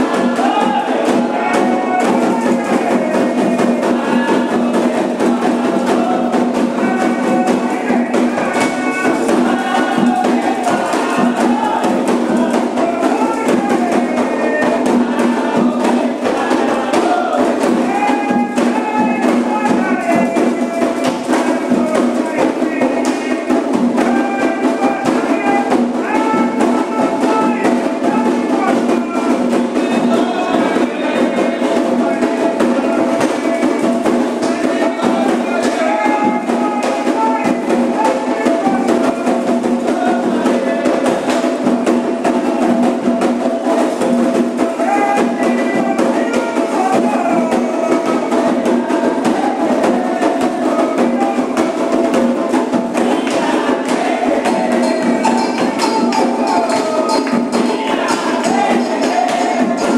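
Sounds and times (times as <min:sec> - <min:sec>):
group singing a chant: 0:00.0 - 0:59.9
hand drums: 0:00.0 - 0:59.9.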